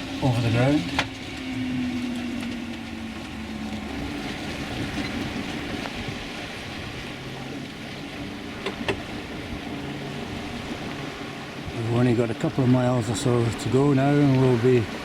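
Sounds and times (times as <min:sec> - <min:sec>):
low steady hum: 0:00.0 - 0:15.0
wind and water rushing: 0:00.0 - 0:15.0.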